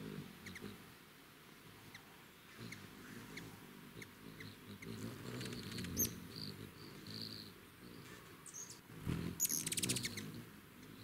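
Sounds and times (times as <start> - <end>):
hummingbird wings humming: 0.0 - 11.0.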